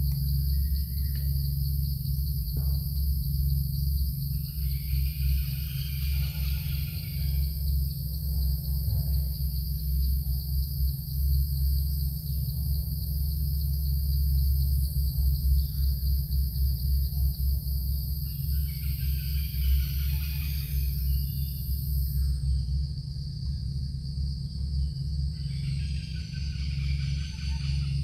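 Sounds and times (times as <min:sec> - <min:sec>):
continuous low rumble: 0:00.0 - 0:28.0
high-pitched insect chorus: 0:00.0 - 0:28.0.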